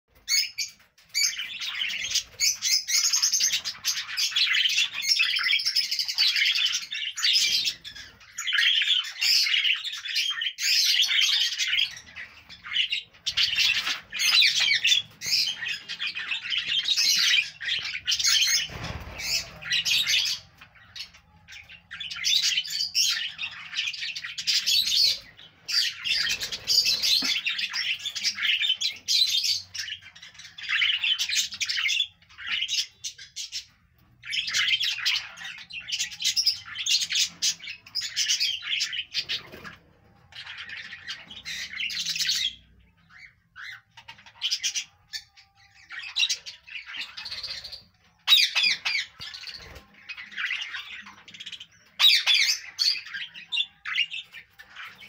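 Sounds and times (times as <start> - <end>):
budgerigars chattering and warbling: 0.2 - 55.0.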